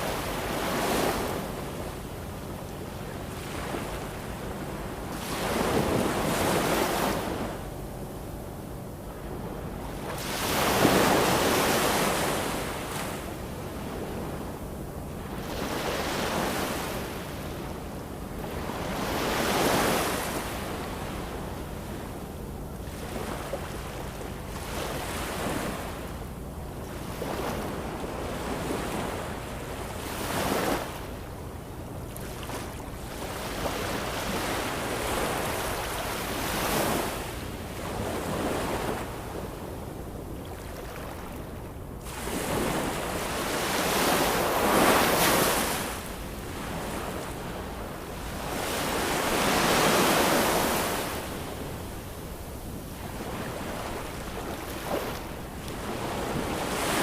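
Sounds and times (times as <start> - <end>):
ocean waves breaking on shore: 0.0 - 7.9, 9.1 - 22.2, 22.8 - 57.0.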